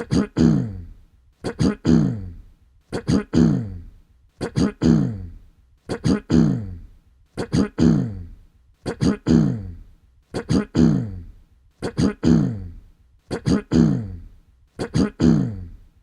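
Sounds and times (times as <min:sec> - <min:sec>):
person clearing throat: 0:00.0 - 0:15.8.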